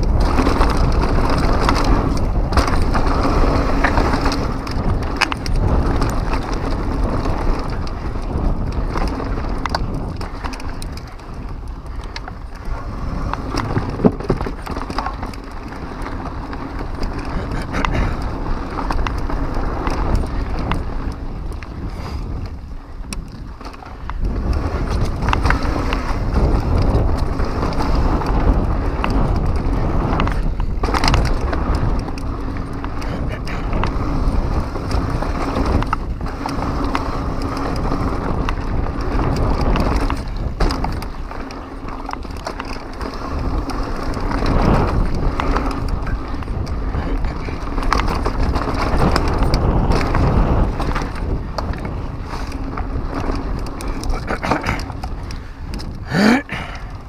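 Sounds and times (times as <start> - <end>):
bike rattling over bumps: 0.0 - 57.0
tyres rolling and skidding on dirt: 0.0 - 57.0
wind on microphone: 0.0 - 57.0.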